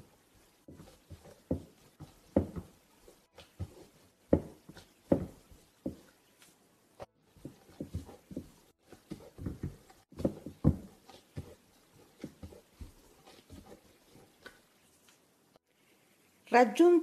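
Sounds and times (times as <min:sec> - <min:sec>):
hands kneading dough in bowl: 0:00.0 - 0:15.3.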